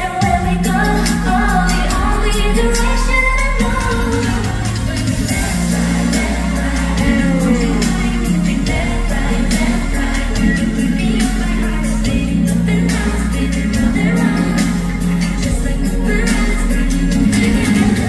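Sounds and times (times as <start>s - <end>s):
pop music over loudspeakers: 0.0s - 18.0s
women singing: 0.0s - 18.0s.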